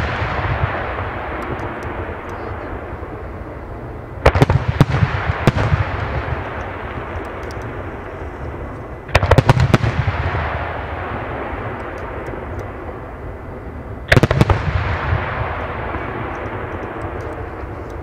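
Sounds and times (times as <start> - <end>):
rumbling echoes: 0.0 - 18.0.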